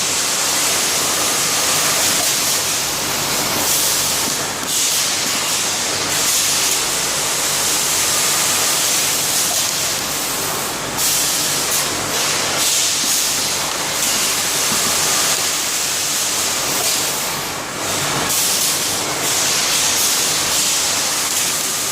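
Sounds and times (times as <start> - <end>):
machine hissing: 0.0 - 21.9.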